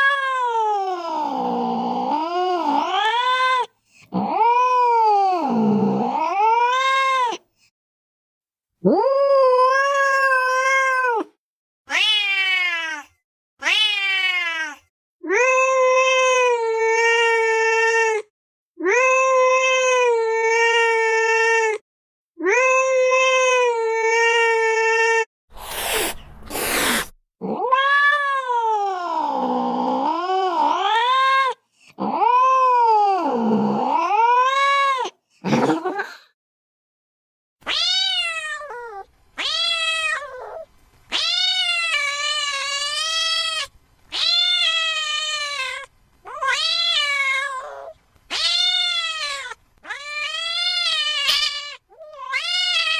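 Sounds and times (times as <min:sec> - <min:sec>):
cat meowing and yowling: 0:00.0 - 0:07.4, 0:08.8 - 0:21.8, 0:22.4 - 0:35.2, 0:37.6 - 0:52.9.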